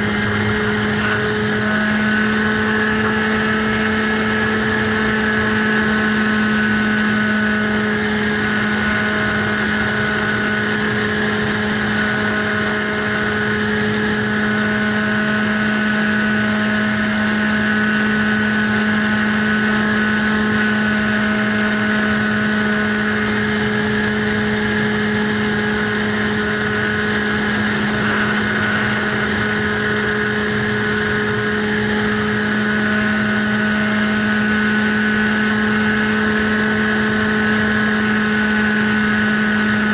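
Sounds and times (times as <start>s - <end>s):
model plane motor and propeller: 0.0s - 39.9s
rushing air: 0.0s - 39.9s.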